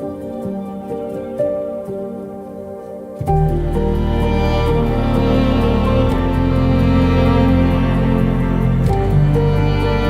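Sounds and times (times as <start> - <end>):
slow tender background music: 0.0 - 10.0.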